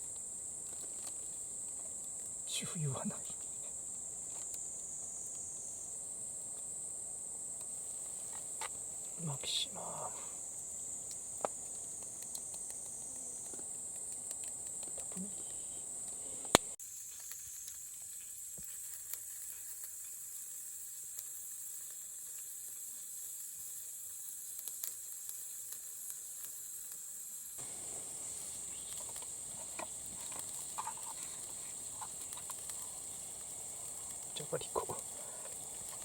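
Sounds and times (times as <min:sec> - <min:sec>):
chicken sizzling on a grill: 0:00.0 - 0:36.0.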